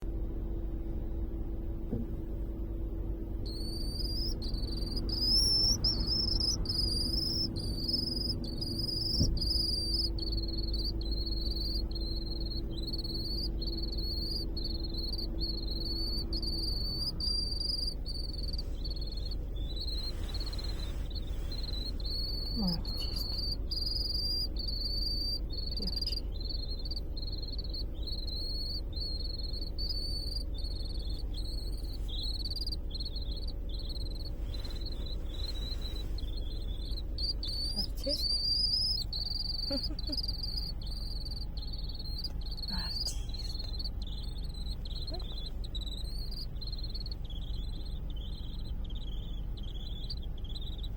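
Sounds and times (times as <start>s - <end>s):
car cabin rumble: 0.0s - 50.9s
swift chirping: 2.7s - 50.9s.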